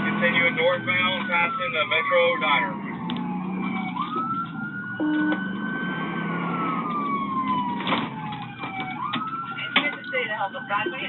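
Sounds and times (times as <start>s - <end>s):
police siren wailing: 0.0s - 11.0s
vehicle engine and road noise: 0.0s - 11.0s.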